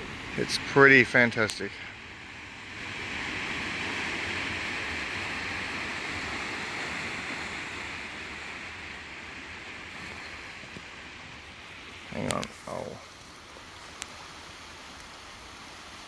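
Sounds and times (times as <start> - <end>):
surf washing onto rocks: 0.0 - 16.0.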